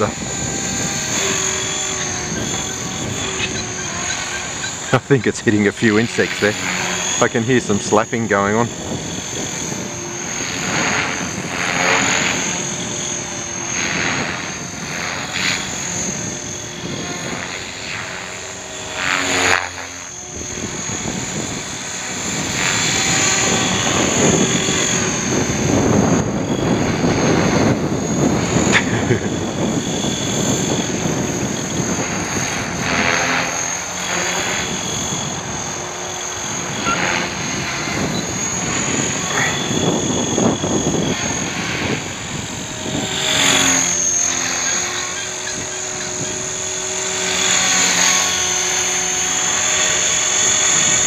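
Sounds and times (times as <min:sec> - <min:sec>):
model helicopter rotor noise: 0:00.0 - 0:51.0
steady high whine: 0:00.0 - 0:51.0.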